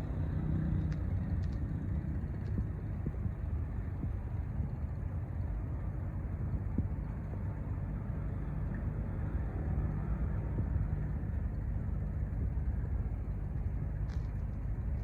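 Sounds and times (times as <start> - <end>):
faint low hum: 0.0 - 15.0
ship engine rumble: 0.0 - 15.0.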